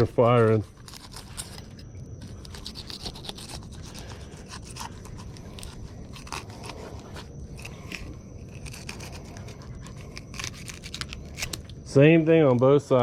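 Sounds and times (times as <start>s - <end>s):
knife scraping fish scales: 0.0s - 11.6s.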